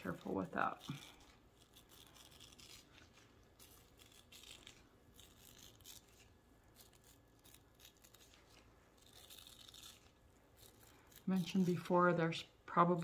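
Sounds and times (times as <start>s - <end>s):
toothbrush bristles flicking: 0.0s - 12.2s.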